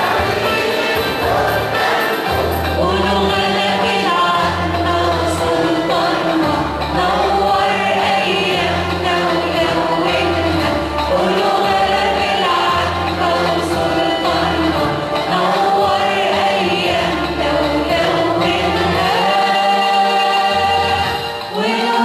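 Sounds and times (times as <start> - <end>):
choir singing a hymn: 0.0 - 22.0
instrumental accompaniment: 0.0 - 22.0.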